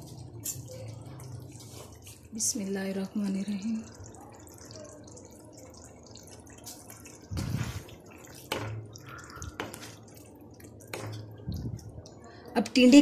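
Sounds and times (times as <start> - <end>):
faint sizzle of curry: 0.0 - 13.0.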